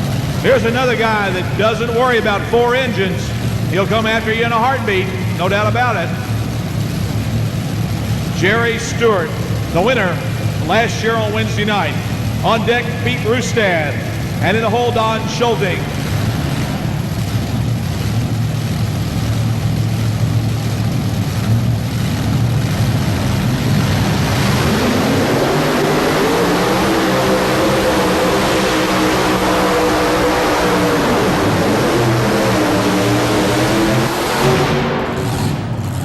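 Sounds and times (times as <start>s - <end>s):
pulling tractor engine howling: 0.0s - 36.0s.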